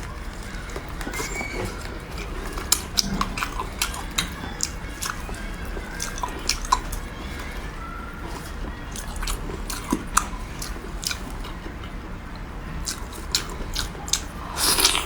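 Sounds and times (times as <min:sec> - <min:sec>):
chewing meat: 0:00.0 - 0:15.0.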